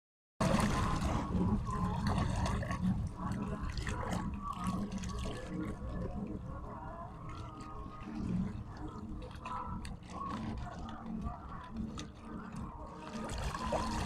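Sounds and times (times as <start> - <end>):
steady low rumble: 0.4 - 14.0
water splashing and sloshing: 0.4 - 14.0.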